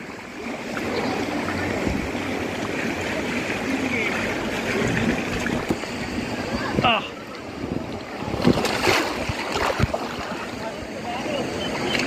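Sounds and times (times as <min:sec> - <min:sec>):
water churning and lapping: 0:00.0 - 0:12.0.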